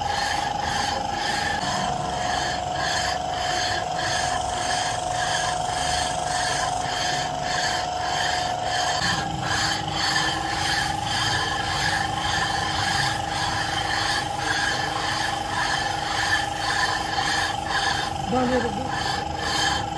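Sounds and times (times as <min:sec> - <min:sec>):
metal-on-metal scraping: 0:00.0 - 0:19.9.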